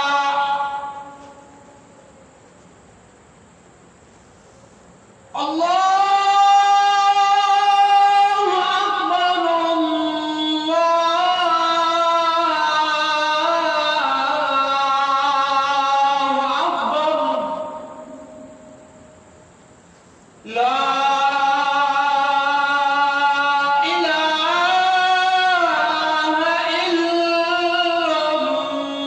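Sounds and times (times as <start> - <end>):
man chanting call to prayer: 0.0 - 1.9, 5.3 - 18.8, 20.4 - 29.0.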